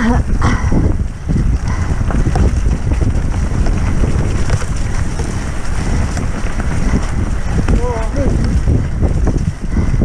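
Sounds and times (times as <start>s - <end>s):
mountain bike rattling: 0.0s - 10.0s
wind buffeting microphone: 0.0s - 10.0s.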